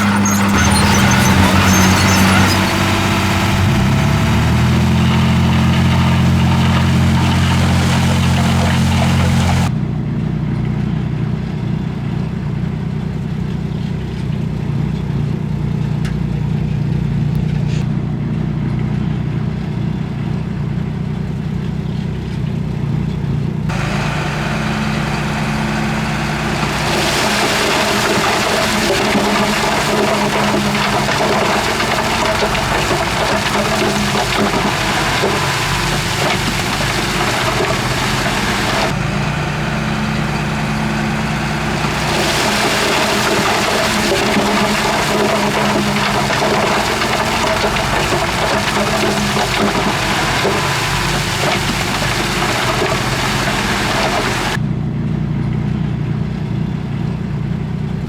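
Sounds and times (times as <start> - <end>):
diesel earthmoving machinery running: 0.0 - 58.0.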